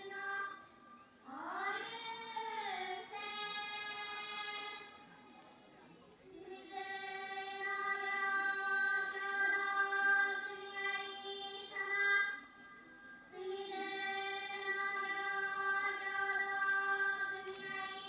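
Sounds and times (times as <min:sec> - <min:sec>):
person singing a slow chant: 0:00.0 - 0:05.1, 0:06.3 - 0:12.5, 0:13.3 - 0:18.0.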